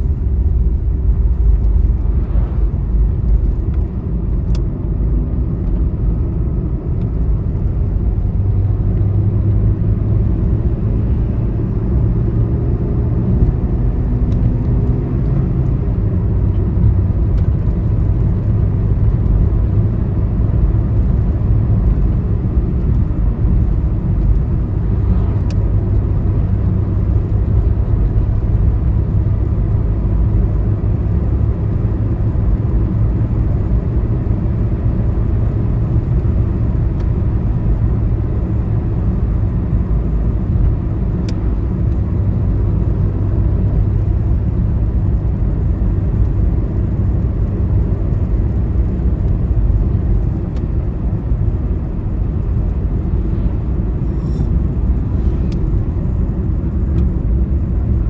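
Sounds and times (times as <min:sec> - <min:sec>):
tyre noise on road: 0:00.0 - 0:58.0
vehicle engine drone: 0:00.0 - 0:58.0.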